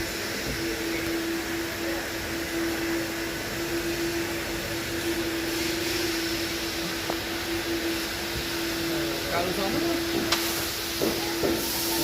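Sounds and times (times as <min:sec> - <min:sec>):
machine hiss: 0:00.0 - 0:12.0.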